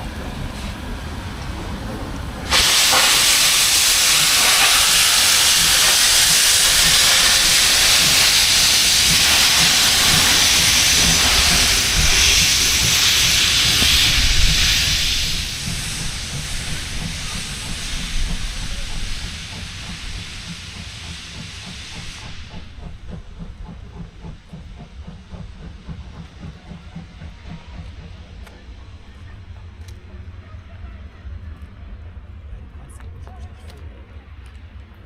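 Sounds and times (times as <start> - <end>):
steam locomotive hissing: 0.0 - 32.4.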